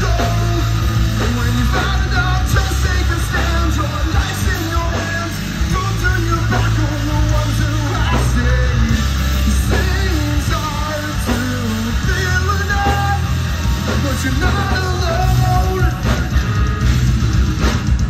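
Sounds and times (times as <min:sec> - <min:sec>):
man singing lead vocal: 0:00.0 - 0:16.8
heavy rock band playing: 0:00.0 - 0:18.0.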